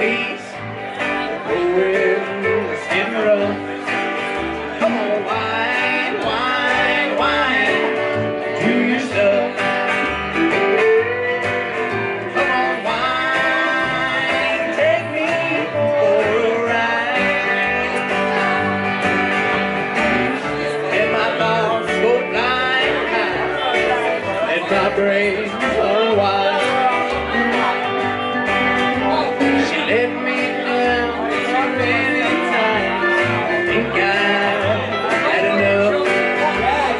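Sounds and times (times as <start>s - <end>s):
electric guitar: 0.0s - 36.9s
plucked upright double bass: 0.0s - 36.9s
strummed acoustic guitar: 0.0s - 36.9s.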